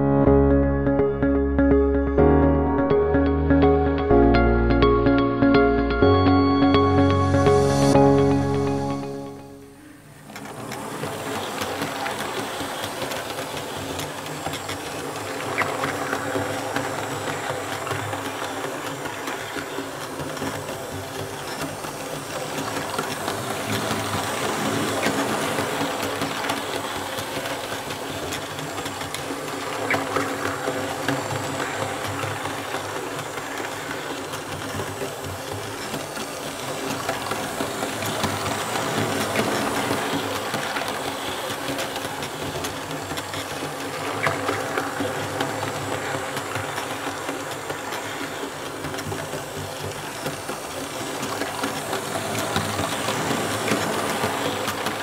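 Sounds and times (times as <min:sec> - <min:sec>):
model train motor hum: 0:10.2 - 0:55.0.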